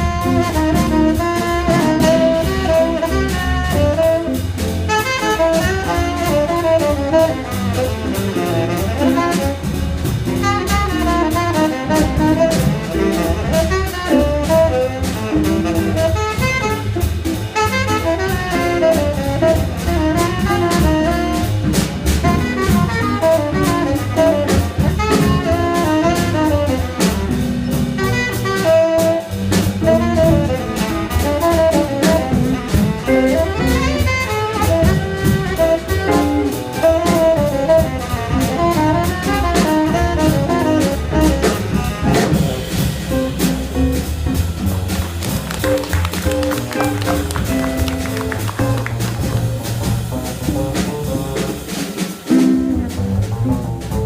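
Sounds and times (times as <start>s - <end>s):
double bass: 0.0s - 54.0s
drum kit: 0.0s - 54.0s
saxophone: 0.0s - 54.0s.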